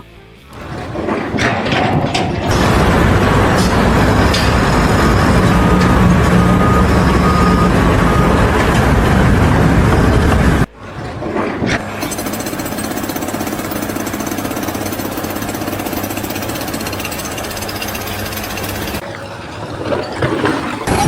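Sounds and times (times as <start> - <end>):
jackhammer hammering: 0.5 - 19.0.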